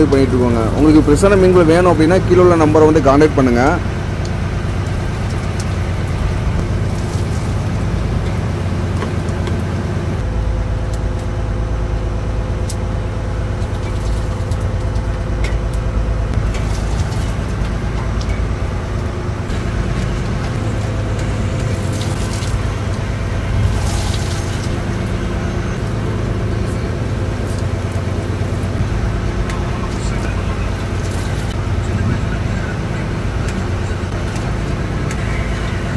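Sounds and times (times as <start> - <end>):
boat engine droning: 0.0 - 35.9.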